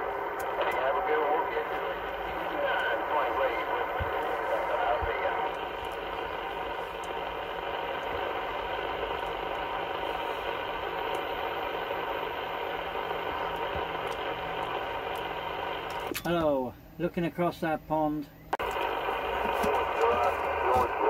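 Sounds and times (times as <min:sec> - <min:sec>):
radio static hiss: 0:00.0 - 0:16.2, 0:18.4 - 0:21.0
faint steady tones: 0:00.0 - 0:21.0.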